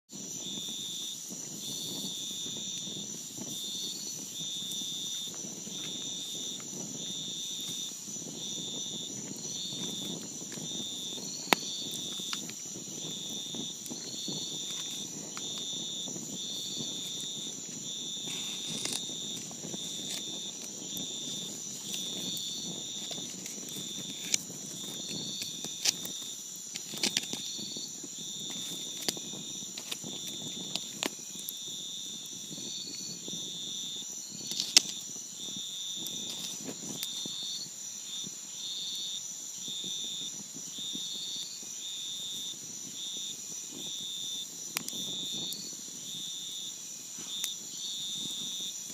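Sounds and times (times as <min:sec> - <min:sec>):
high-pitched insect chorus: 0:00.1 - 0:48.9
insect chirps: 0:00.1 - 0:48.9
campfire crackling: 0:00.2 - 0:38.9, 0:40.4 - 0:48.9.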